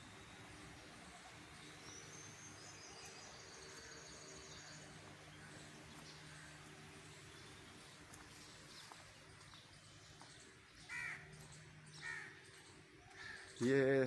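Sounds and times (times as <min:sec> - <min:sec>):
bird calling: 0:00.0 - 0:14.0.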